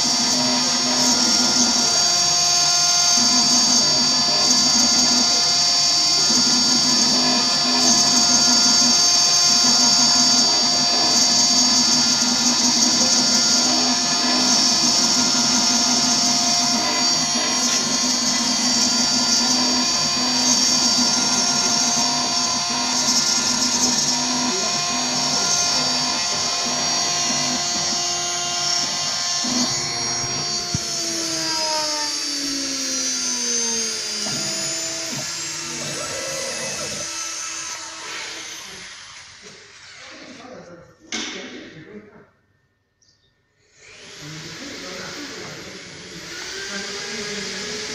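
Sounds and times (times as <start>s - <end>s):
gritty metal cutting noise: 0.0s - 40.4s
router spindle whine: 0.0s - 41.4s, 43.7s - 47.9s.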